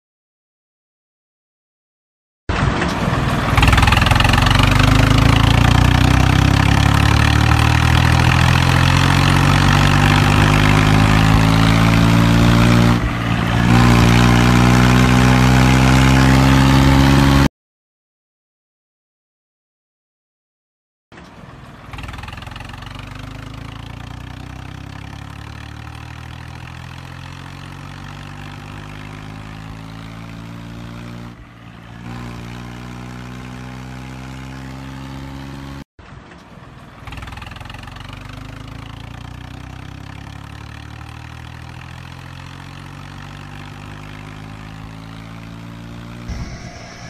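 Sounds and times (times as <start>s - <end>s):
tractor diesel engine under load: 2.5s - 17.5s, 21.1s - 47.0s.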